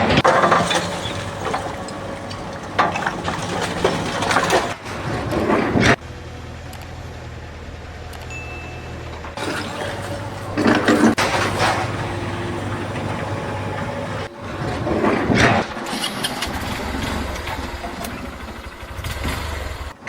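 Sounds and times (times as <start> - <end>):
clattering knocks: 0.0 - 6.0, 8.6 - 20.0
engine running: 0.0 - 20.0
low engine hum: 0.0 - 20.0.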